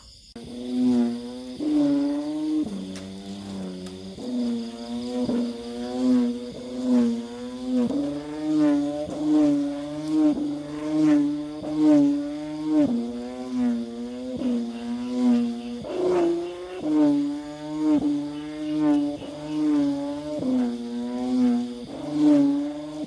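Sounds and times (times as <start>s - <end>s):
kite hummer droning: 0.0s - 23.0s.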